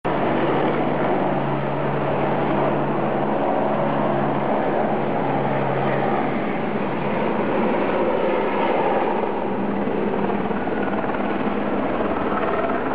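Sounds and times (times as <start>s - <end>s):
model helicopter drone: 0.1s - 12.9s.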